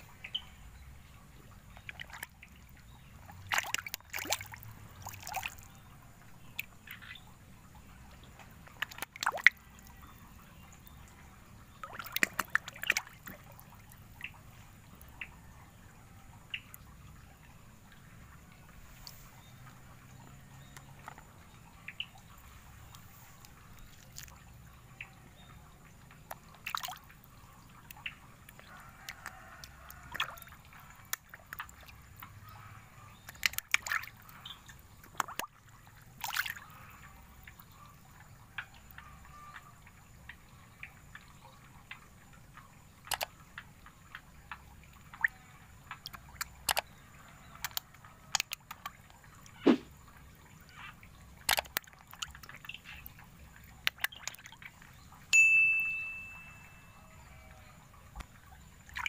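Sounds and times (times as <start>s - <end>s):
fish splashing in pond water: 0.0s - 59.0s.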